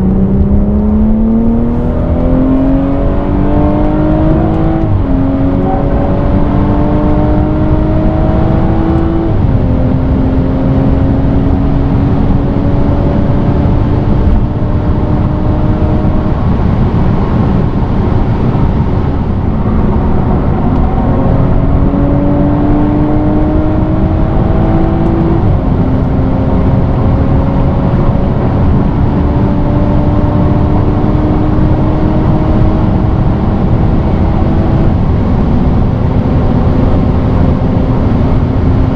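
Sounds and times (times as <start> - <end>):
car engine accelerating: 0.0 - 38.9
road noise: 0.0 - 38.9.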